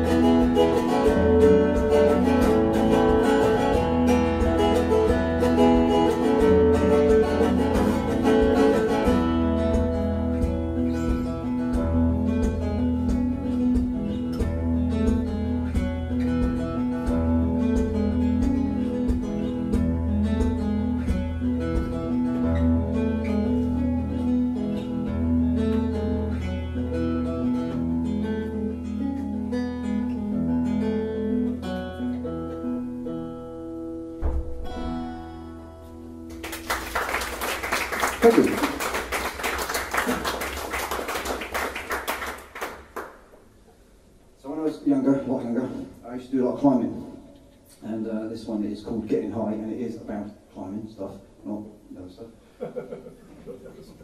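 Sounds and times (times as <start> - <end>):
acoustic guitar playing: 0.0 - 44.4.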